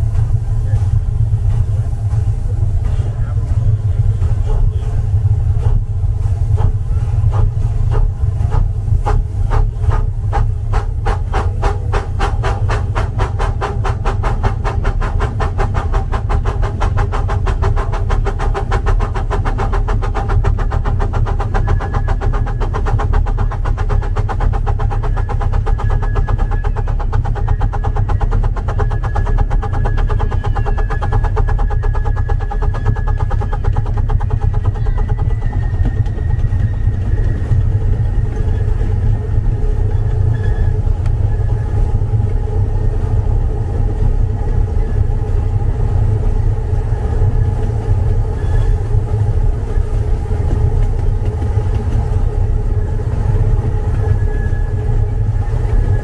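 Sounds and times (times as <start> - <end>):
low rumble: 0.0 - 56.0
steam locomotive chuffing: 0.0 - 56.0.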